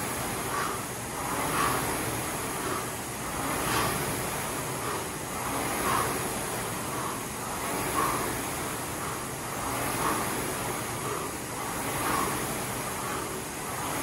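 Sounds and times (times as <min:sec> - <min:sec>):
rowing machine flywheel whooshing: 0:00.0 - 0:14.0.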